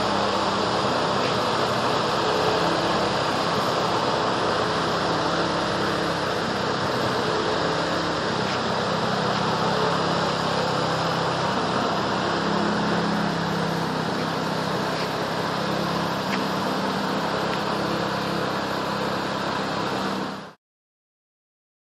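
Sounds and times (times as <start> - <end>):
small engine running: 0.0 - 20.6.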